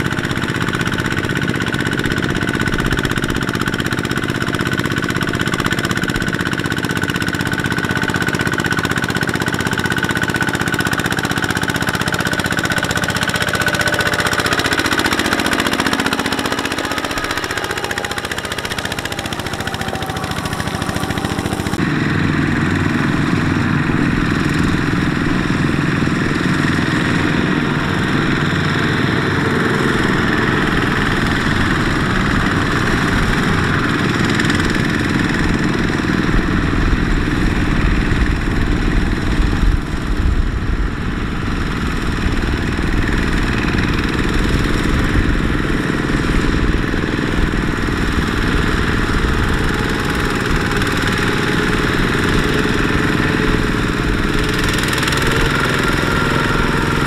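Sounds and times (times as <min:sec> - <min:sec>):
diesel tractor engine chugging: 0:00.0 - 0:57.0.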